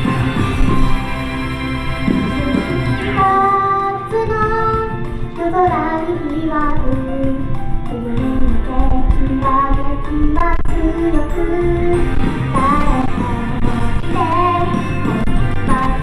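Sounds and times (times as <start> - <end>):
woman singing over pop track: 2.1 - 16.0.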